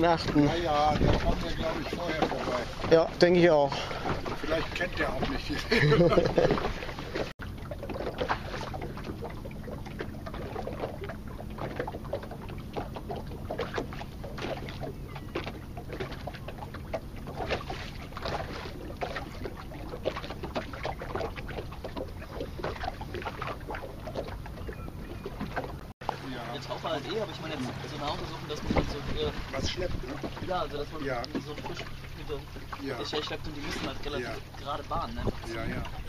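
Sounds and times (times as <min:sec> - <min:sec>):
water lapping against boat hull: 0:00.0 - 0:36.0.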